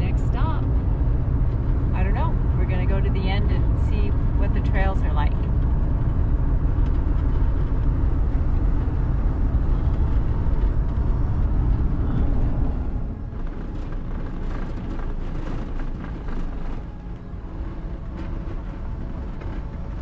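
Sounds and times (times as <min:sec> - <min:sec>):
road rumble: 0:00.0 - 0:20.0.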